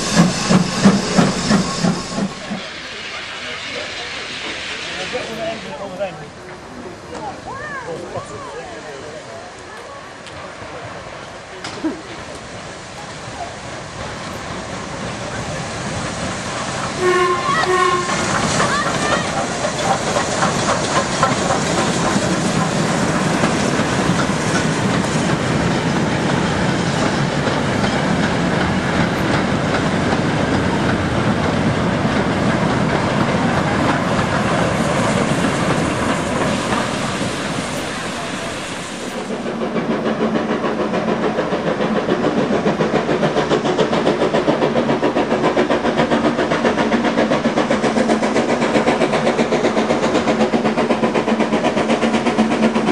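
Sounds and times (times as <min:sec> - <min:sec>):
steam train fast regular beat: 0:00.0 - 0:06.0, 0:14.6 - 0:52.9
steam train hissing: 0:00.0 - 0:52.9.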